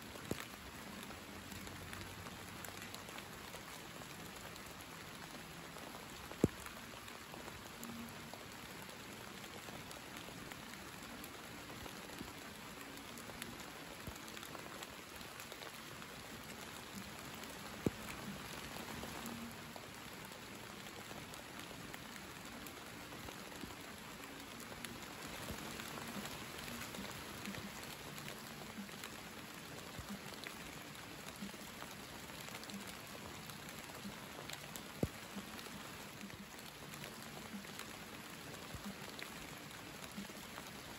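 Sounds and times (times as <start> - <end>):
faint rain patter: 0.0 - 40.9.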